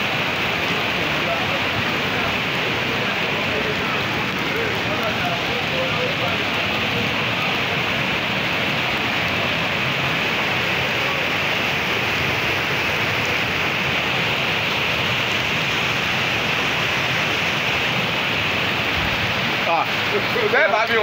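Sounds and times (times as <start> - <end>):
floodwater surging through channel: 0.0 - 21.0
heavy rain: 0.0 - 21.0.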